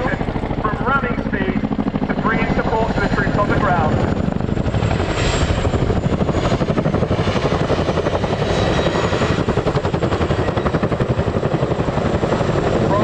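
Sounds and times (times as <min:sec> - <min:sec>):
helicopter engine noise: 0:00.0 - 0:13.0
helicopter rotor blades chopping: 0:00.0 - 0:13.0.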